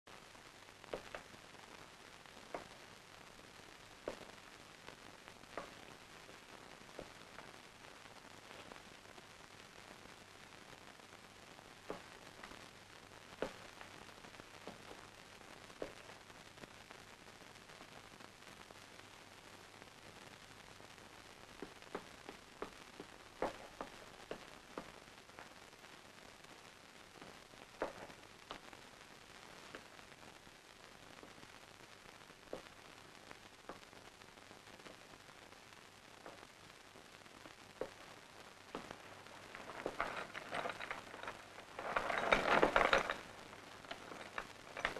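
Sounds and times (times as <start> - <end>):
sharp clicks and pops: 0.1 - 18.0, 19.8 - 44.9
old film soundtrack hiss: 0.1 - 44.9.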